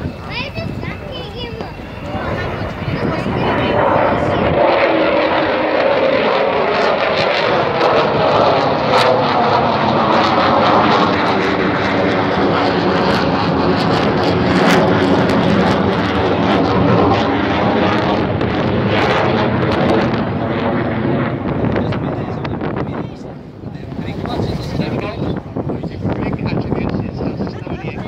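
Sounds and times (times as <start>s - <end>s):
jet aircraft roar: 0.0s - 28.0s.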